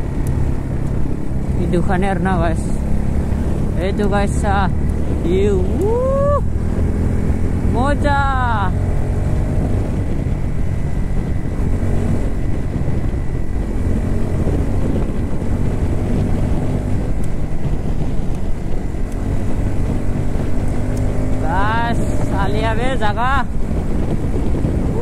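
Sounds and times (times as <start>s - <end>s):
motorcycle engine running: 0.0s - 25.0s
wind rumble on microphone: 0.0s - 25.0s.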